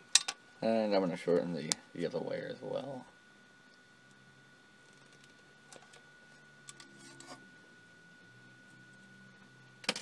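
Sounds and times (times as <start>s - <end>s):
steady high whine: 0.0s - 10.0s.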